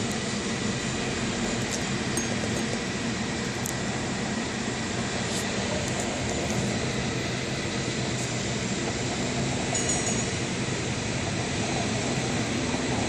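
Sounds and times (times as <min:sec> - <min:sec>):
cable car rumbling hum: 0:00.0 - 0:13.0.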